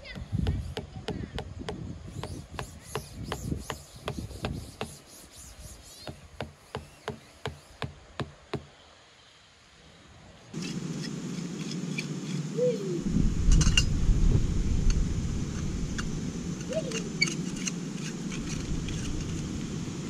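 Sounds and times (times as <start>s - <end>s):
steady hissing: 2.0s - 20.0s.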